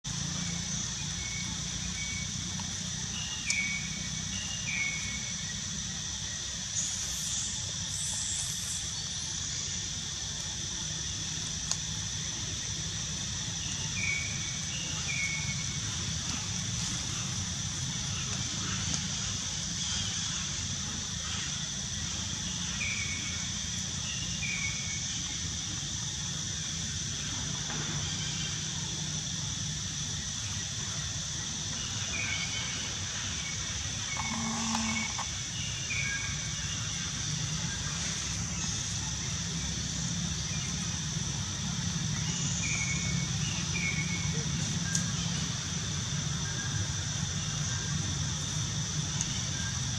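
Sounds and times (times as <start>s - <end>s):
high insect drone: 0.1s - 49.9s.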